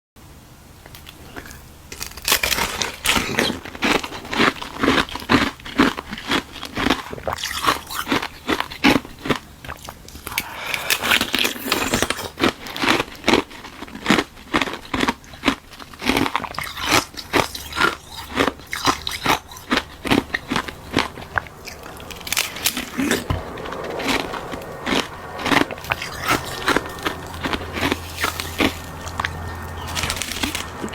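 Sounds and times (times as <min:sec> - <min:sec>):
crunching ice with teeth: 0:00.8 - 0:30.9
grinding ice: 0:00.9 - 0:30.9.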